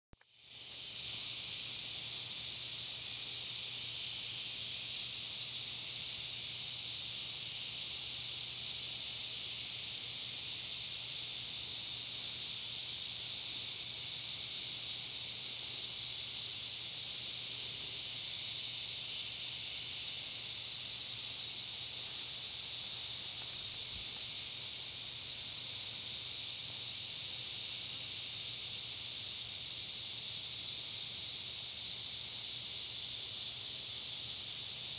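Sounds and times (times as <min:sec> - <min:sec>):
steady hiss: 0:00.2 - 0:34.9.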